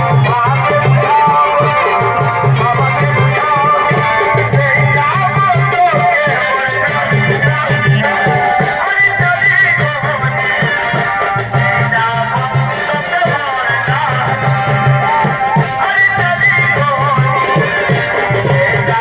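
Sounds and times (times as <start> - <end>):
drums beating: 0.0 - 19.0.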